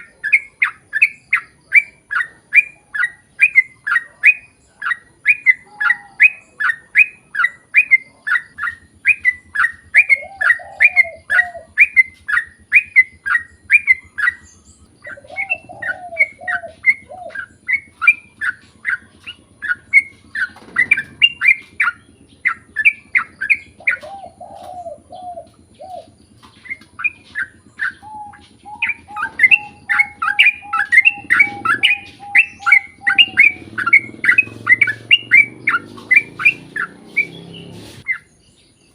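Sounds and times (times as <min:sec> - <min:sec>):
low warbling bird phrase: 0:00.0 - 0:38.4
bird sharp rapid chirps: 0:00.0 - 0:38.9.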